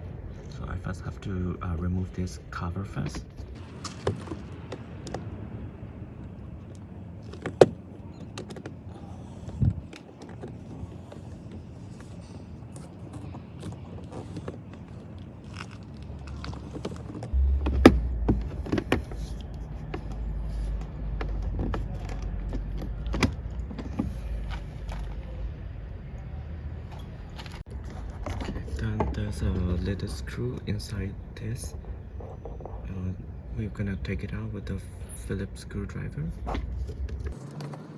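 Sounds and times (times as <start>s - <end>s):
low handling rumble: 0.0s - 37.4s.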